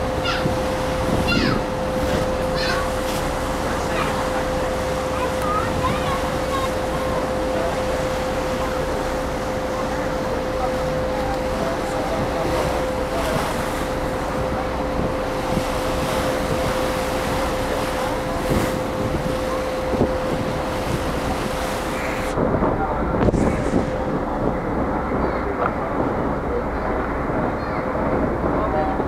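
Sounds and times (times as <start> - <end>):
ferry engine hum: 0.0 - 29.0
rushing water: 0.0 - 29.0
wind buffeting microphone: 0.0 - 29.0.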